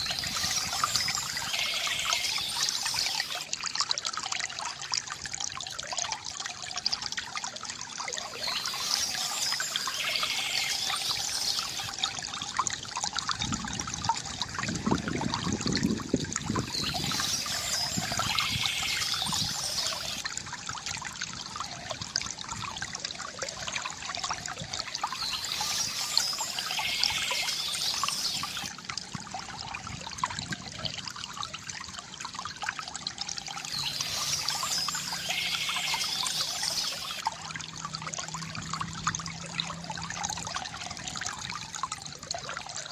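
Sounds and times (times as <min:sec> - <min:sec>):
water gurgling: 0:00.0 - 0:42.9
water trickling from bamboo fountain: 0:00.0 - 0:42.9.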